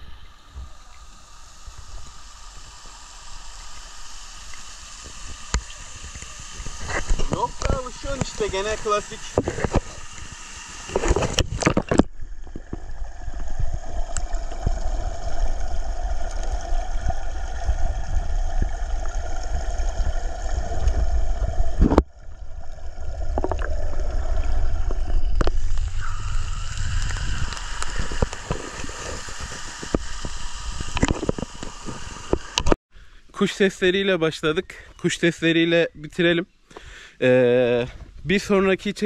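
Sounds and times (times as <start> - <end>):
waterfall pouring into pool: 0.0 - 32.8.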